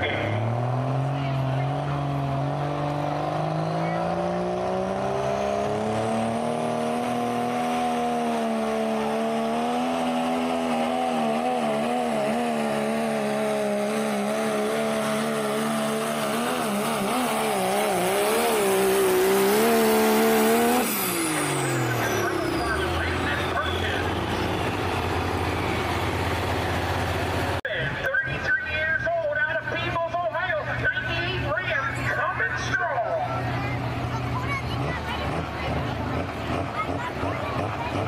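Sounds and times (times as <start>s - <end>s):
diesel truck engine at full throttle: 0.0s - 38.0s.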